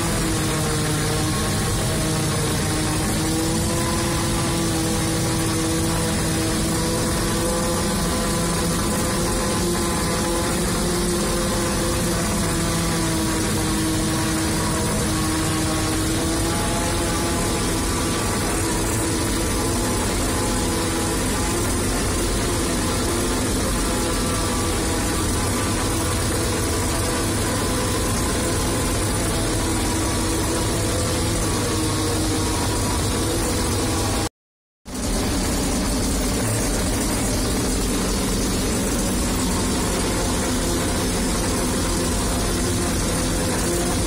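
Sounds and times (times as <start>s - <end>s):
engine rumble: 0.0s - 34.3s, 34.9s - 44.0s
steady pitched machine hum: 0.0s - 34.3s, 34.9s - 44.0s.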